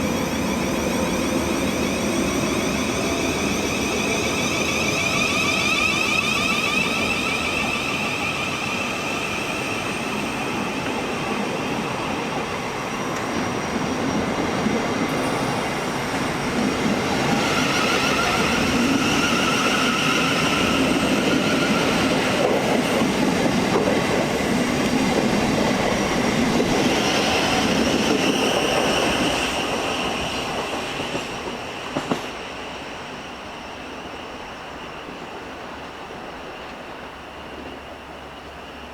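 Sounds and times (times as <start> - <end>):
electric train whining past: 0.0 - 38.9.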